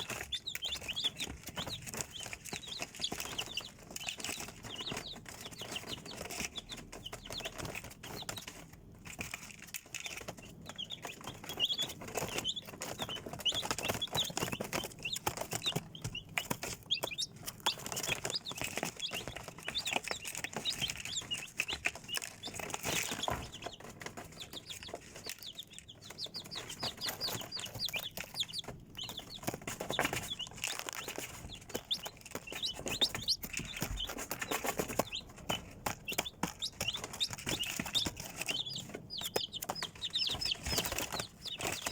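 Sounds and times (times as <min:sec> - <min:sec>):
chicks peeping: 0:00.0 - 0:41.9
scratchy rustles and clicks: 0:00.0 - 0:41.9.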